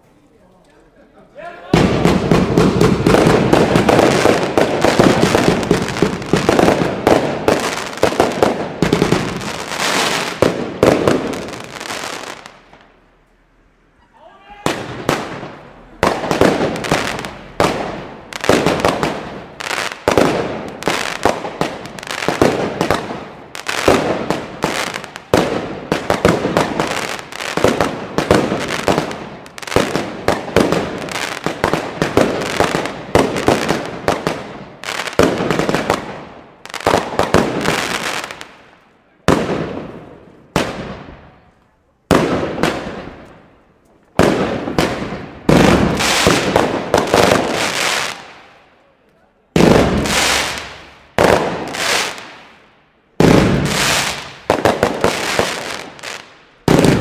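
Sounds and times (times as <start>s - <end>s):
fireworks bangs: 1.5s - 13.3s, 14.1s - 48.7s, 49.5s - 57.0s.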